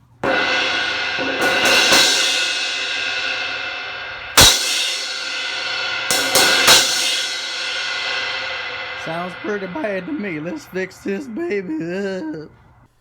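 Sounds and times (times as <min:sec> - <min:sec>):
cracked crash cymbal struck: 0:00.0 - 0:11.6.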